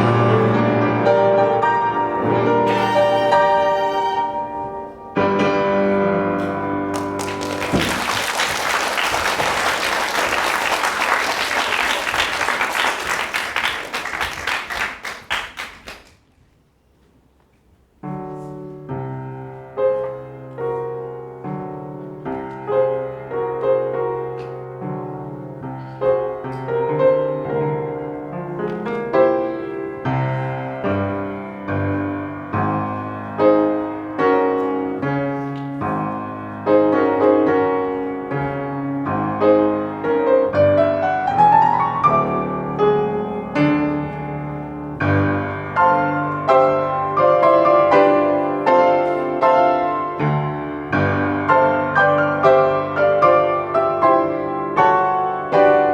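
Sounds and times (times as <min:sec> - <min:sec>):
piano piece: 0:00.0 - 0:15.0, 0:18.0 - 0:55.9.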